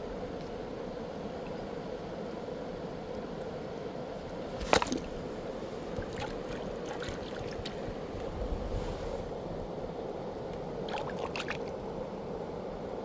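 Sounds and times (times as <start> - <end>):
river water flowing over cobbles: 0.1 - 8.4, 9.3 - 12.1.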